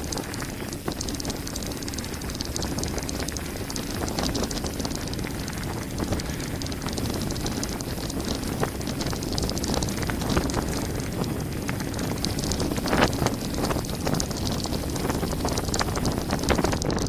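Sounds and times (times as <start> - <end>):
bike clicking and rattling: 0.0 - 17.0
tyres on loose gravel: 0.0 - 17.0
wind rushing over microphone: 0.0 - 17.0.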